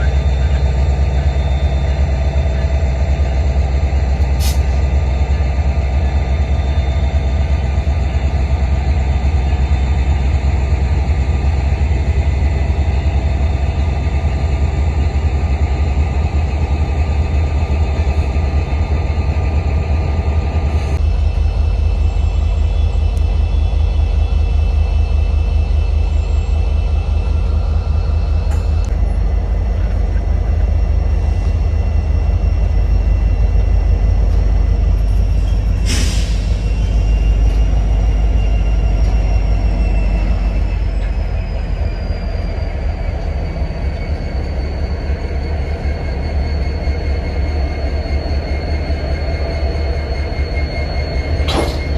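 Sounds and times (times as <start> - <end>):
diesel locomotive engines rumbling: 0.0 - 51.9.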